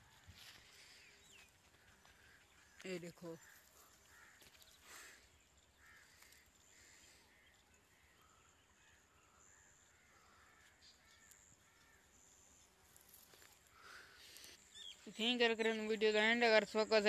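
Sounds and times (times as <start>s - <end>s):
faint bird calls: 0.0s - 15.3s.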